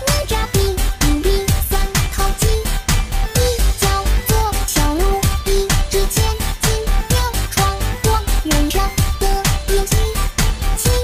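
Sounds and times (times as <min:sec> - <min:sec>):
electronic pop song: 0:00.0 - 0:11.0
person singing: 0:00.0 - 0:11.0
steady kick drum: 0:00.0 - 0:11.0.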